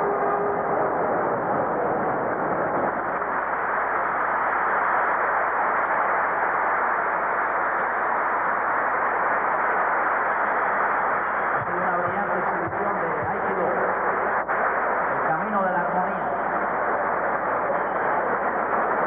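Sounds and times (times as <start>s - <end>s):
steady noise: 0.0s - 19.0s.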